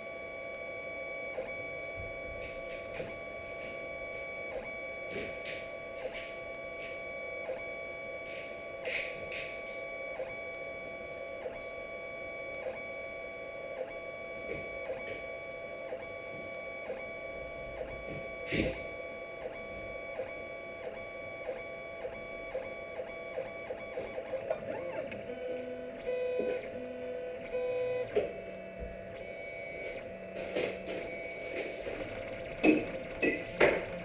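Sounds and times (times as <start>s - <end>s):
printer stepper motors whining: 0.0s - 34.0s.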